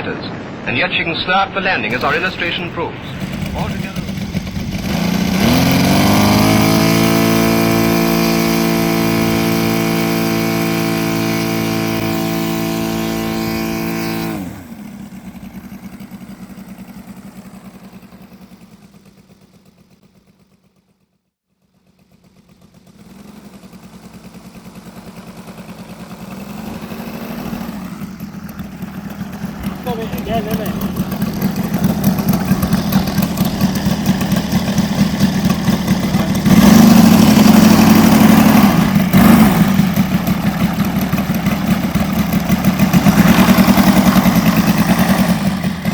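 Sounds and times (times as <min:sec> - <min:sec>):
radial aircraft engine revving: 0:01.9 - 0:20.8, 0:21.6 - 0:45.9
engine idling with pulsing beat: 0:01.9 - 0:21.0, 0:21.6 - 0:45.9.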